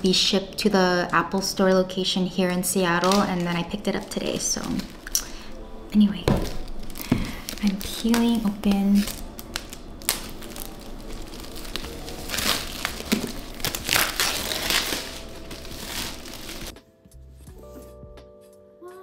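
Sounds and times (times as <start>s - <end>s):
plastic wrap crinkling: 0.9s - 16.7s.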